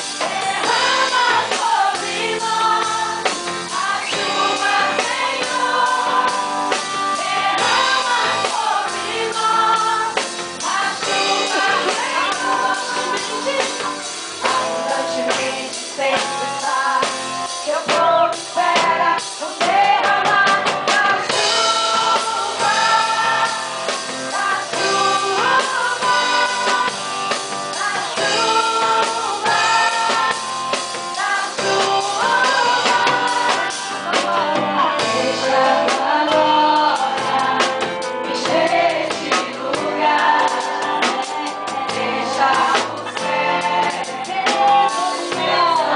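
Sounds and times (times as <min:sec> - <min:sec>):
instrumental accompaniment with drums: 0:00.0 - 0:45.9
voices singing gospel: 0:00.0 - 0:45.9.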